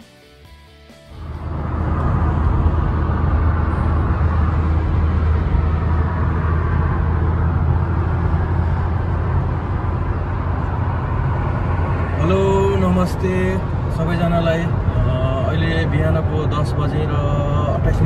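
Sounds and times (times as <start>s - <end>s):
car road and engine rumble: 1.1s - 18.0s.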